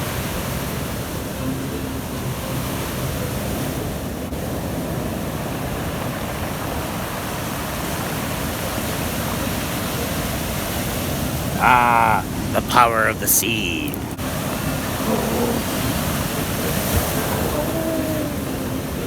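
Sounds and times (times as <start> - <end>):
wind: 0.0 - 19.0.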